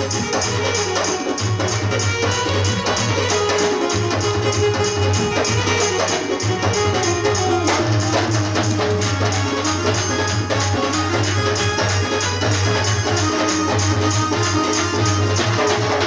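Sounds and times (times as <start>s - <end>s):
hand drums: 0.0s - 16.0s
held melody line: 0.0s - 16.0s
jingling percussion: 0.0s - 16.0s.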